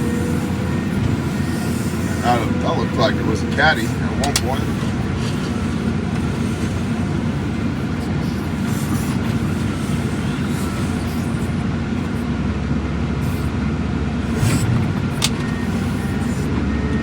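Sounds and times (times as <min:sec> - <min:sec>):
vehicle rumble from inside cab: 0:00.0 - 0:17.0.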